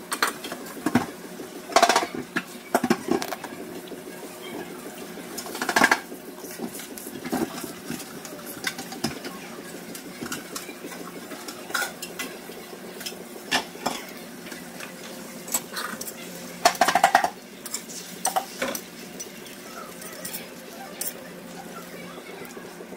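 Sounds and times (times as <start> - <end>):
utensils clattering: 1.7 - 3.6, 5.3 - 22.8.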